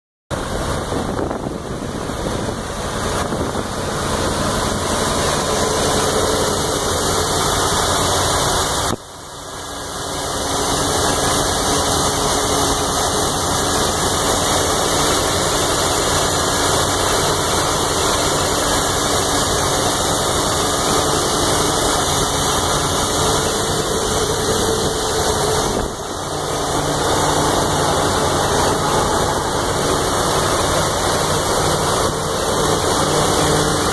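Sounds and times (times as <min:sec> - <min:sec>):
truck engine idling: 0:00.3 - 0:33.9.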